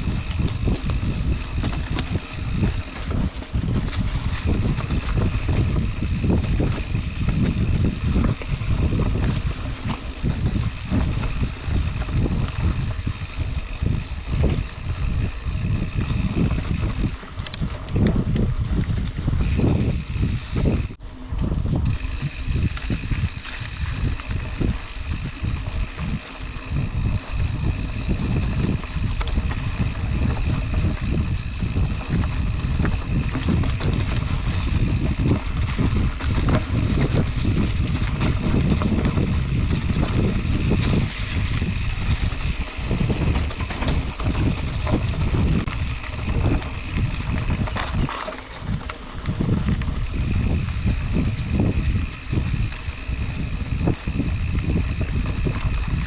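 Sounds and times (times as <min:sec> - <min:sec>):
mountain bike rattling on dirt trail: 0:00.0 - 0:56.0
wind buffeting microphone: 0:00.0 - 0:56.0.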